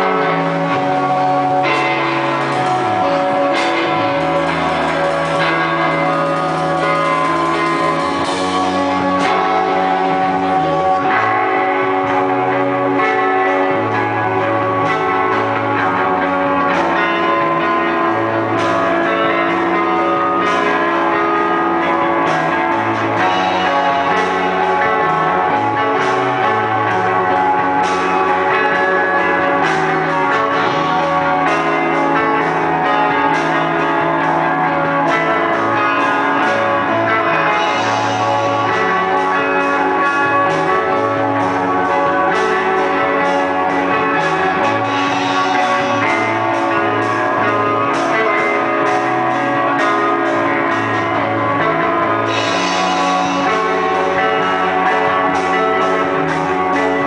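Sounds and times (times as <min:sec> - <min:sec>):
drum kit: 0:00.0 - 0:57.0
electric guitars: 0:00.0 - 0:57.0
low bass notes: 0:00.0 - 0:57.0.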